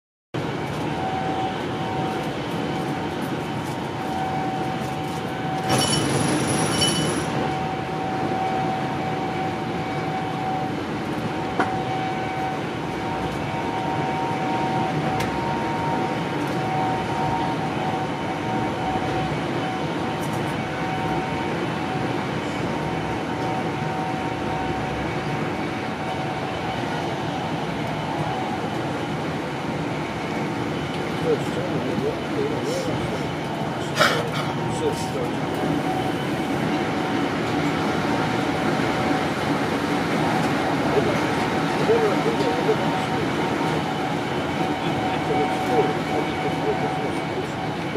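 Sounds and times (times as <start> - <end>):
thin steady whine: 0.4 - 47.9.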